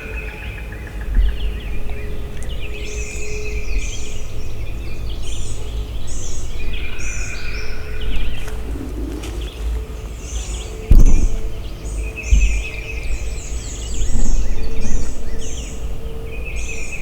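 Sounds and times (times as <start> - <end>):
faint hum: 0.0 - 17.0
songbirds chirping and trilling: 0.0 - 17.0
low rumble: 1.2 - 16.6.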